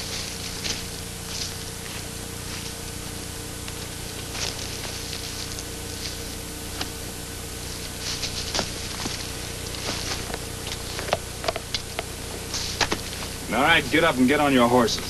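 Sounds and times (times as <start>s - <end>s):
old soundtrack hiss and hum: 0.0s - 15.0s.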